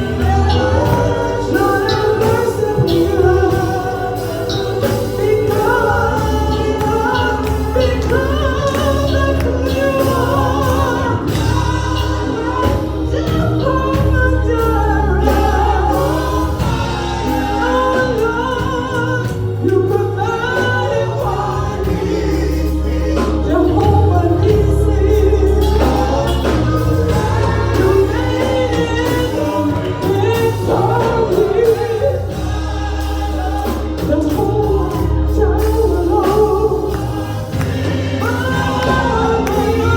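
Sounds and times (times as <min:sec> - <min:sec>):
band with heavy bass: 0:00.0 - 0:39.9
choir singing gospel song: 0:00.0 - 0:39.9.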